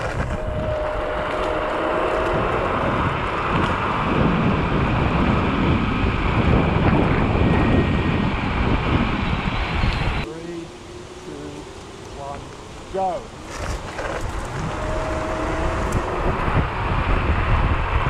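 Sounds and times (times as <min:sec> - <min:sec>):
tyre road rumble: 0:00.0 - 0:18.0
wind buffeting microphone: 0:00.0 - 0:18.0.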